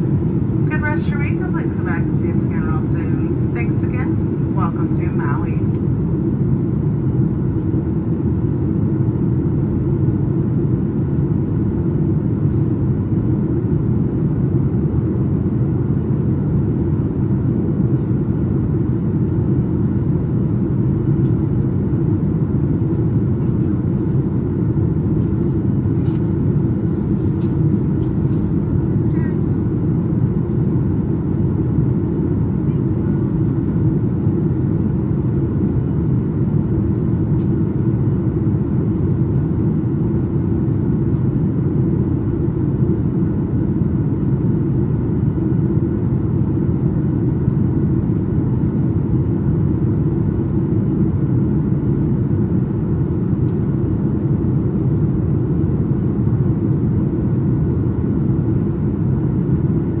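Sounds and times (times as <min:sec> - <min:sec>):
airliner cabin rumble: 0:00.0 - 1:00.0.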